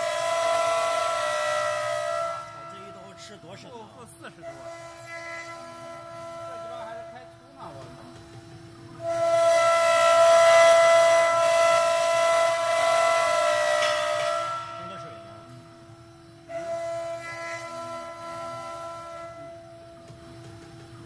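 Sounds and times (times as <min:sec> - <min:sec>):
router spindle whine cutting wood: 0:00.0 - 0:08.2, 0:08.9 - 0:20.5.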